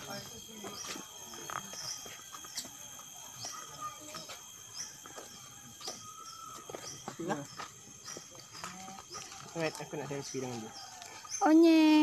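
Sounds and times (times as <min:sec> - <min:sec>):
birds chirping: 0:00.0 - 0:12.0
steady high hum: 0:00.0 - 0:12.0
footsteps on paving: 0:00.5 - 0:11.4.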